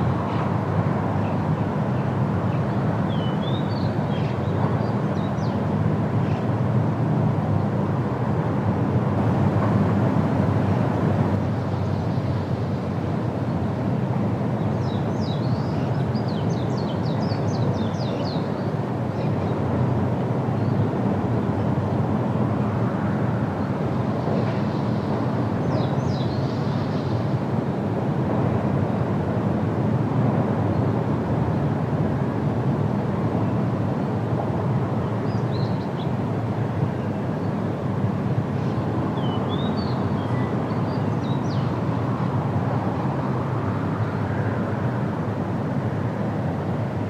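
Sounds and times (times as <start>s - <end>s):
wind through trees: 0.0s - 47.0s.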